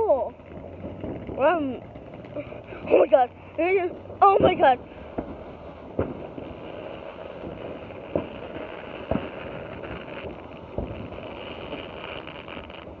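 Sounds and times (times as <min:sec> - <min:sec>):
firework hissing sparks: 0:00.0 - 0:13.0
firework pops: 0:00.0 - 0:13.0.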